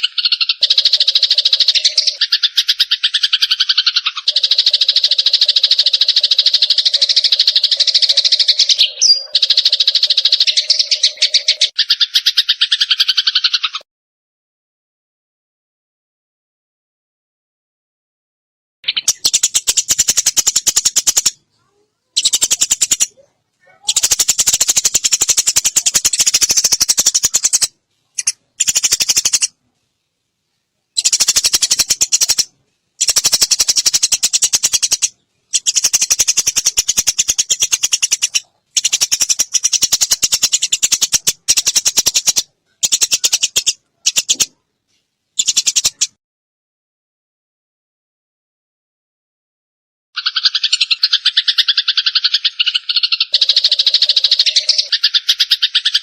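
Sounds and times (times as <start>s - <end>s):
sparrows chattering chirps: 0.0s - 13.8s, 18.8s - 29.6s, 30.9s - 46.2s, 50.2s - 56.0s.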